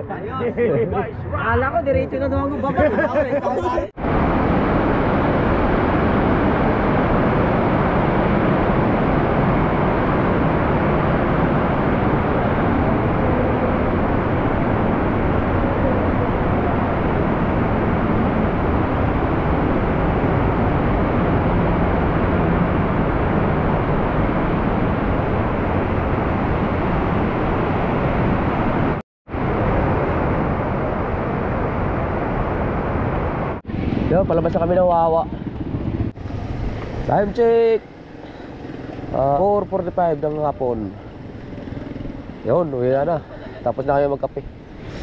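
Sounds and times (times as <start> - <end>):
wind rushing over microphone: 3.8 - 45.0.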